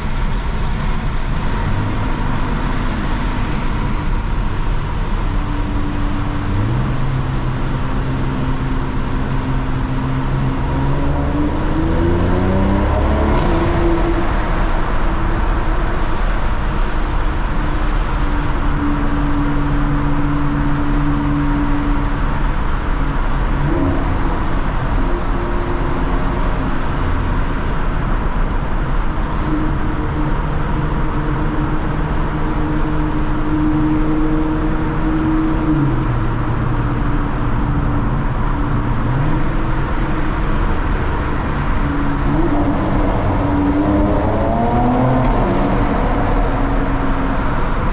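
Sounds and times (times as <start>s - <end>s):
car engine and exhaust cruising: 0.0s - 47.9s
road and tyre rumble: 0.0s - 47.9s.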